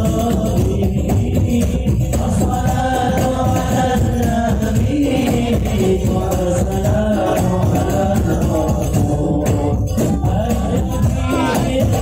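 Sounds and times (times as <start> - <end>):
devotional singing over a speaker: 0.0 - 12.0
hand drum and jingle percussion: 0.0 - 12.0.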